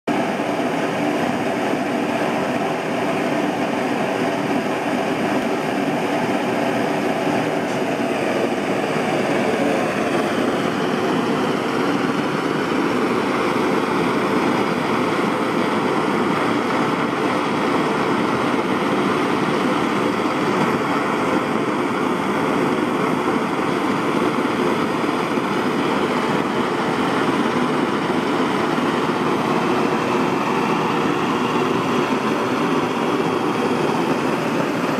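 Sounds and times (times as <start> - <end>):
blowlamps rushing: 0.1 - 34.9.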